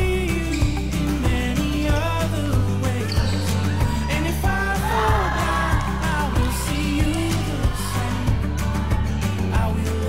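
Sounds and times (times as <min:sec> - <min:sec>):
pop song with steady beat: 0:00.0 - 0:10.0.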